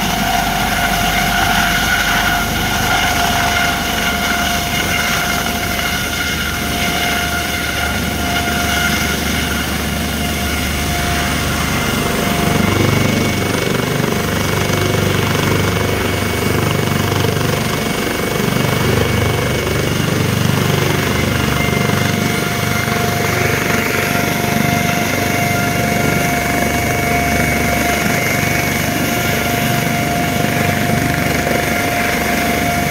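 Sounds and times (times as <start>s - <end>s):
helicopter rotor rumble: 0.0s - 32.9s
helicopter turbine whine: 0.0s - 32.9s.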